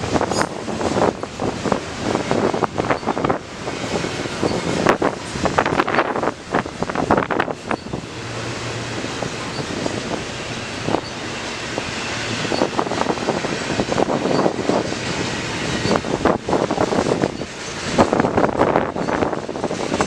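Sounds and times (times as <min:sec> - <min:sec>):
freight train rail rumble: 0:00.0 - 0:20.0
wind buffeting microphone: 0:00.0 - 0:20.0.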